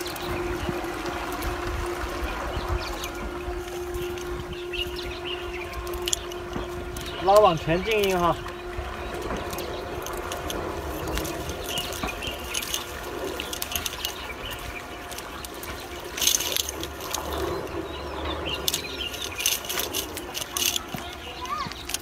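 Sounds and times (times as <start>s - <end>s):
faint steady hum: 0.0s - 21.8s
fishing net rustling and clicking: 0.0s - 22.0s.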